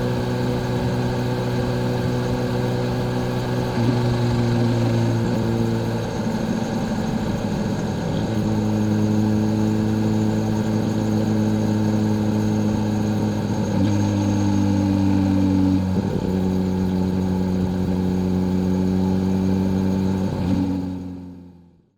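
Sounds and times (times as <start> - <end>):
motorcycle engine running: 0.0 - 21.7.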